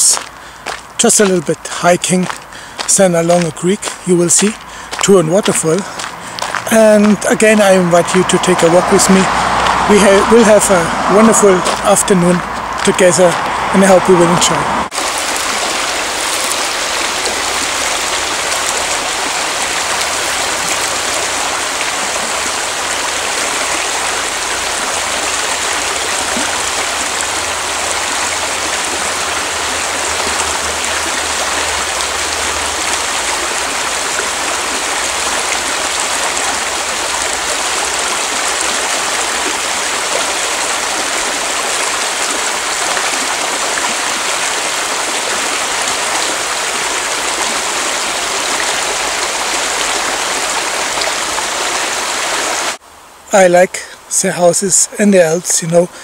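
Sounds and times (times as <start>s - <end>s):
mountain creek rushing: 0.0s - 56.0s.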